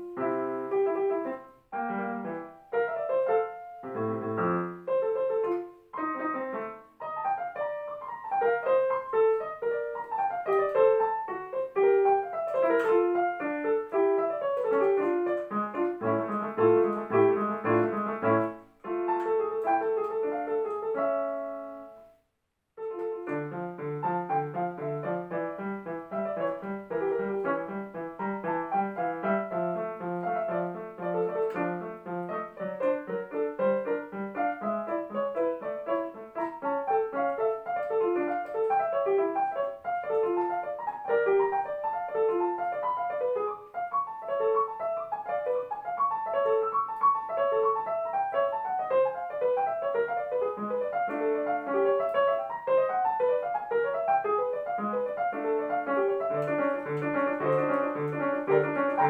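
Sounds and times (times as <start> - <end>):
digital piano classical piece: 0.0 - 59.0.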